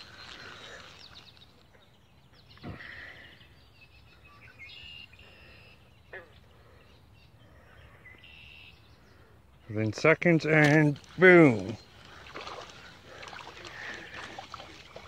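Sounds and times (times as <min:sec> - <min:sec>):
birds chirping and trilling: 0:00.0 - 0:15.0
outdoor background noise: 0:00.0 - 0:15.0.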